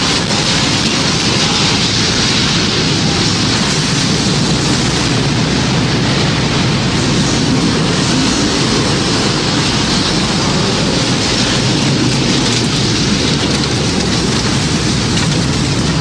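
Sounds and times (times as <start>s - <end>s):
heavy rain: 0.0s - 16.0s
storm wind rushing: 0.0s - 16.0s.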